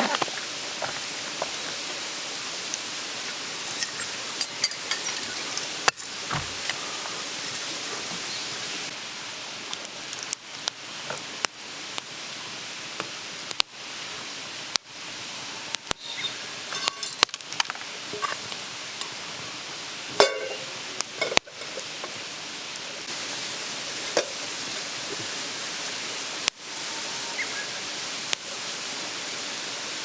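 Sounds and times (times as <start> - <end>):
stream babbling: 0.0 - 30.0.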